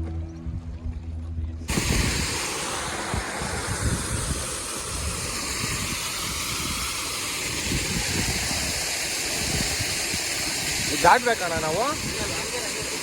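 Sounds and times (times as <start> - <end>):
river water rushing: 1.7 - 13.0
wind on microphone: 1.7 - 13.0.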